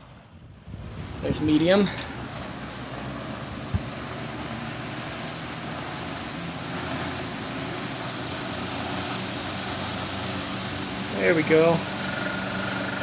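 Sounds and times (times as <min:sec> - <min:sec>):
table fan running: 0:00.1 - 0:13.0.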